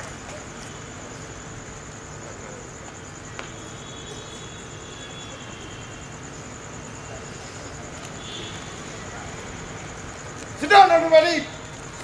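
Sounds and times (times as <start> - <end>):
crickets trilling: 0.0 - 12.0
faint hall noise: 0.0 - 12.0.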